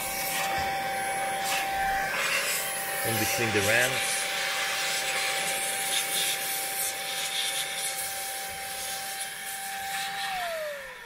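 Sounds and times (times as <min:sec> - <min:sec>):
vacuum motor whine: 0:00.0 - 0:11.0.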